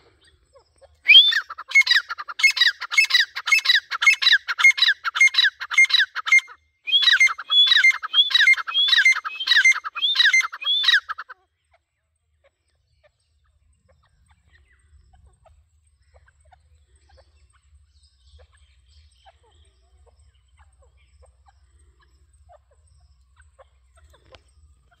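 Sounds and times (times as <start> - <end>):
bird calls: 0.0 - 25.0.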